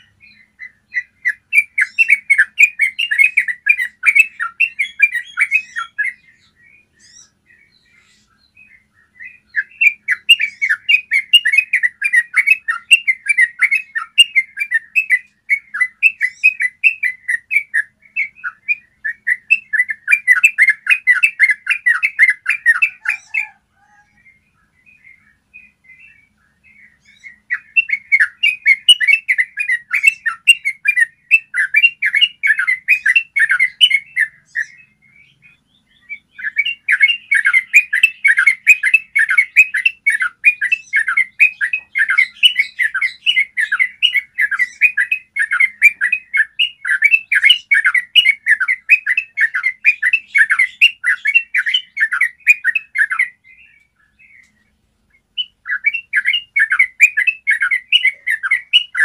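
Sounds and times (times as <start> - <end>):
bird singing rapid chattering song: 0.0 - 59.0.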